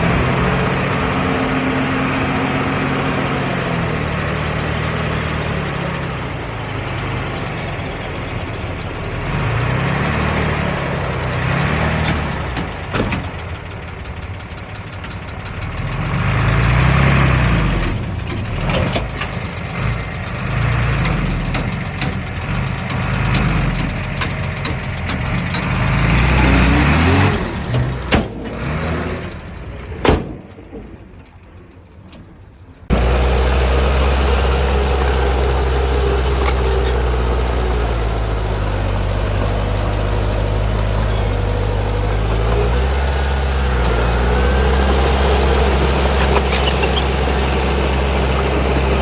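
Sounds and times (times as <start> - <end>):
bulldozer diesel engine revving: 0.0 - 49.0.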